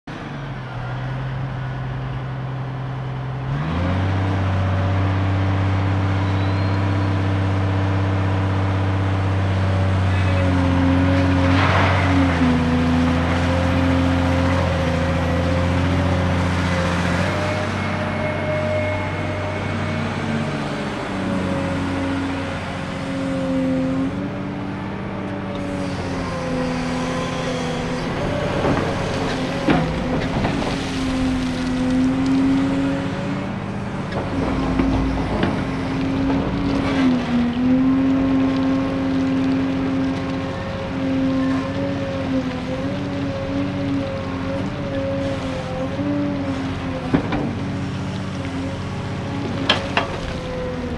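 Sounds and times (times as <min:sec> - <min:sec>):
excavator diesel engine running: 0:00.1 - 0:50.9.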